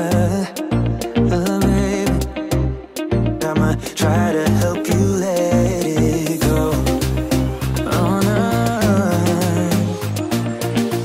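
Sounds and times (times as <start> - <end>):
song with bass beat and singing: 0.0 - 11.0.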